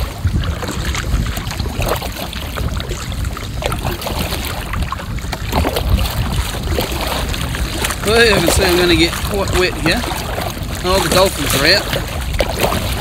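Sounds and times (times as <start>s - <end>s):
paddle strokes splashing water: 0.0s - 13.0s
wind buffeting microphone: 0.0s - 13.0s.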